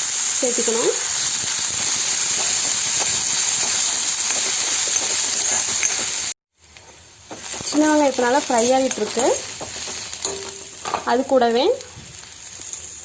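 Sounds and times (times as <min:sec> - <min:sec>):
shallots sizzling in oil: 0:00.0 - 0:13.0.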